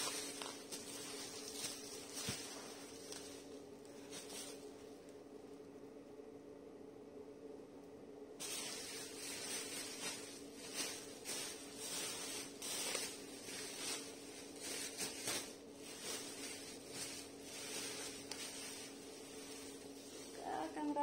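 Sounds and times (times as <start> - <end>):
bubble wrap rustling and crinkling: 0.0 - 4.9, 8.4 - 21.0.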